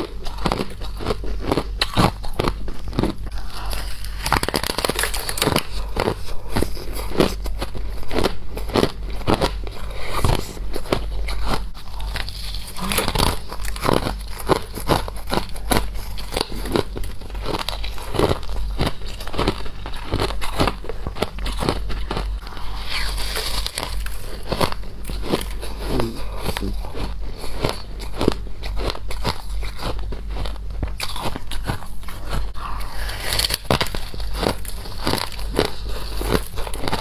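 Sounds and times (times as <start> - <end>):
crunching and chewing frost: 0.0 - 37.0
low steady hum: 0.0 - 37.0.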